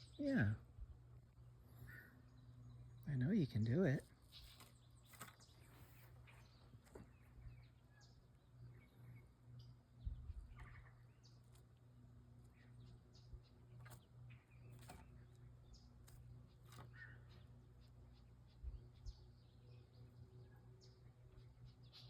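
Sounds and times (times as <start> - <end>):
steady low hum: 0.0 - 22.0
faint bird chirps: 1.7 - 11.8, 12.4 - 22.0.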